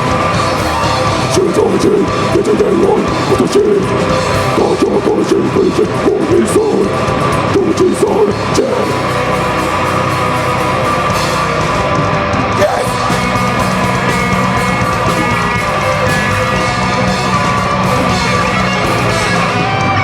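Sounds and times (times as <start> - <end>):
person singing: 0.0 - 11.4, 12.5 - 20.0
distorted electric guitars: 0.0 - 20.0
heavy rock band playing: 0.0 - 20.0.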